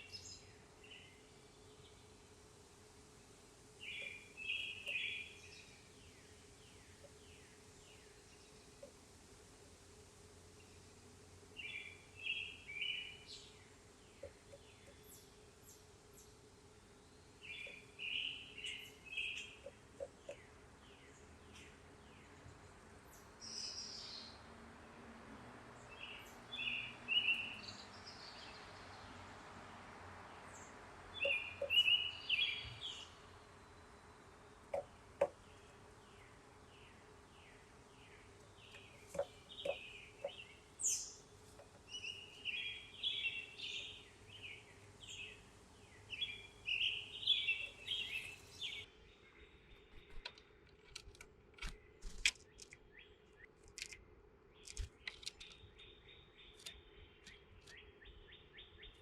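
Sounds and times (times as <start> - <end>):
faint steady hiss: 0.0 - 58.0
songbirds chirping: 0.0 - 59.0.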